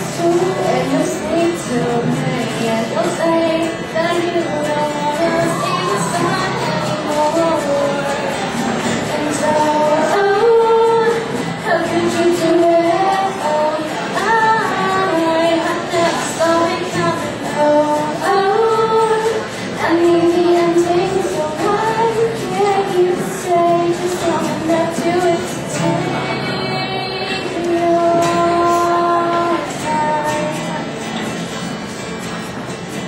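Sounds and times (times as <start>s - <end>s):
woman singing: 0.0s - 31.1s
musical accompaniment: 0.0s - 33.0s.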